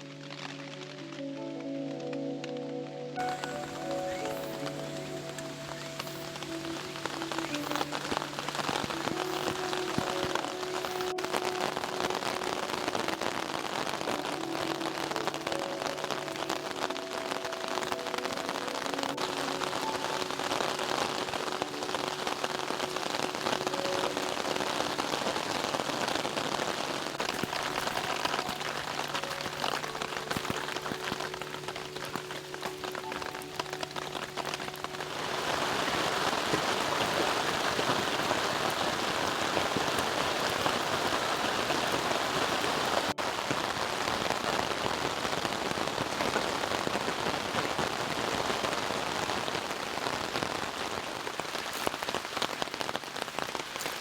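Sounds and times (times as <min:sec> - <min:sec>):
rain pattering in forest: 0:00.0 - 0:54.0.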